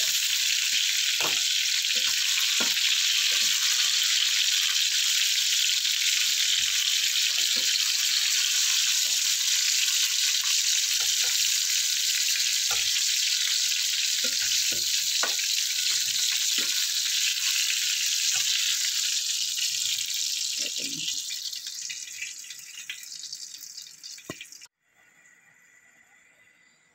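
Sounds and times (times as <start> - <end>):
chicken sizzling in hot oil: 0.0 - 26.6.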